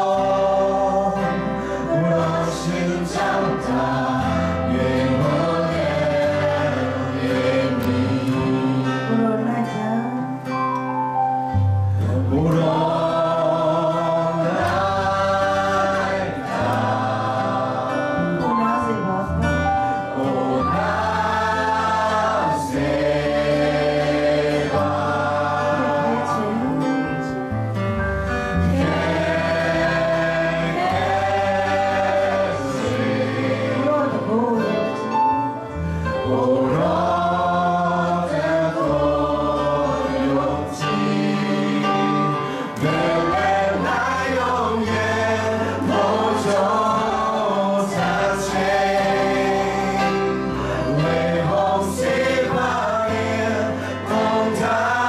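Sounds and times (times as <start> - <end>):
man and woman singing: 0.0 - 10.6, 12.1 - 19.4, 24.7 - 27.4, 28.8 - 35.2, 36.2 - 55.0
acoustic guitar: 0.0 - 55.0
bass guitar: 0.0 - 55.0
keyboard: 0.0 - 55.0.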